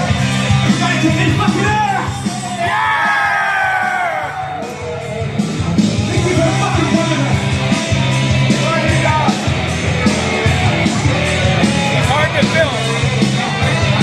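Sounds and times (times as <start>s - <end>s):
hard rock backing track: 0.0s - 14.0s.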